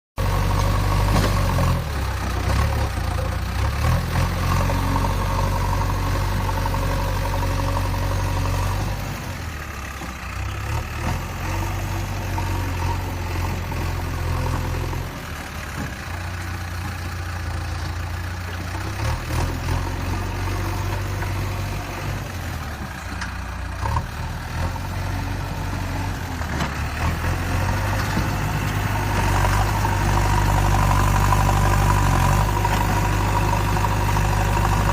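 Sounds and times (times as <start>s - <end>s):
backhoe engine idling: 0.2s - 34.9s.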